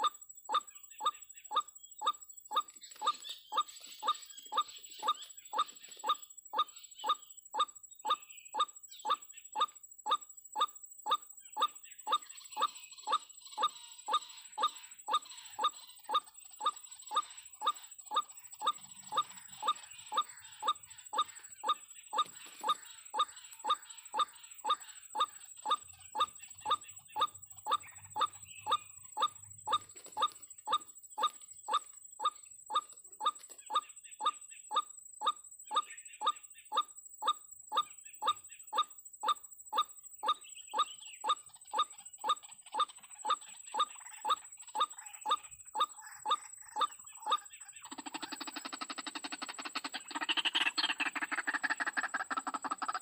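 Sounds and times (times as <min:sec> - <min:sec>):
bird calling sharp notes: 0:00.0 - 0:53.0.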